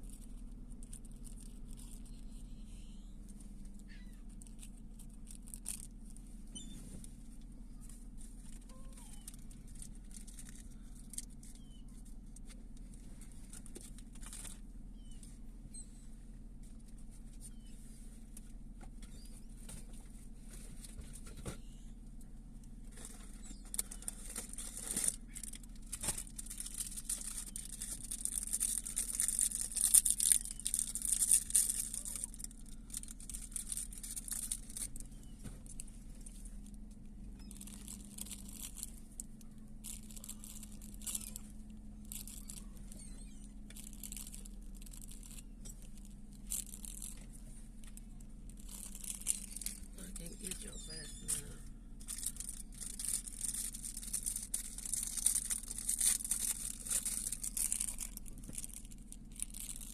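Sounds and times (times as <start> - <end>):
dense crackling rustle: 0.0 - 21.5, 22.6 - 59.9
steady low hum: 0.0 - 59.9.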